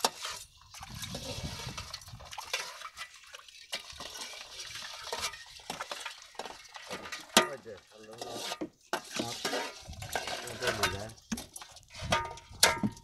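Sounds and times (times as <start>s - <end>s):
metal ladle scraping metal basin: 0.0s - 13.0s
water sloshing: 0.0s - 13.0s.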